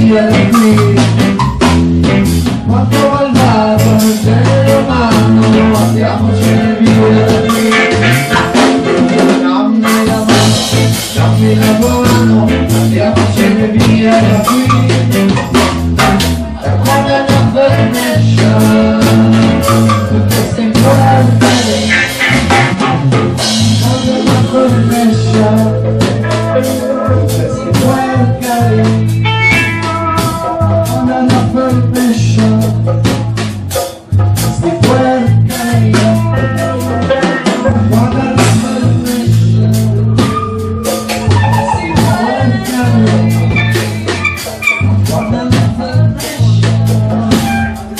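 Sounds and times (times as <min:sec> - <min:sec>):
deep bass line: 0:00.0 - 0:47.9
drum kit: 0:00.0 - 0:47.9
guitar: 0:00.0 - 0:47.9.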